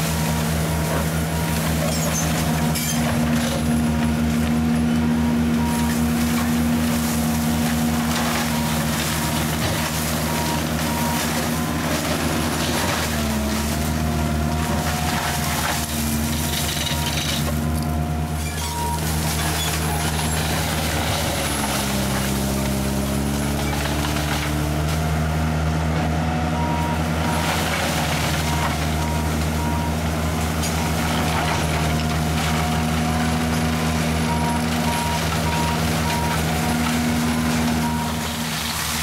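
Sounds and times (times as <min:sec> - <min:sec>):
mulcher engine running hard: 0:00.0 - 0:39.0.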